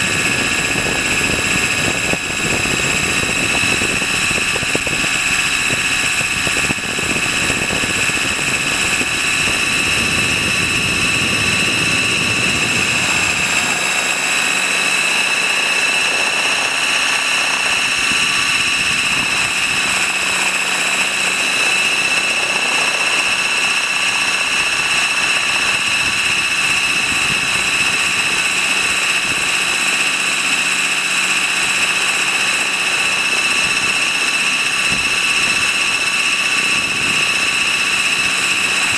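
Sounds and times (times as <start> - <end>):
helicopter rotor noise: 0.0 - 38.9
rc helicopter high whine: 0.0 - 38.9.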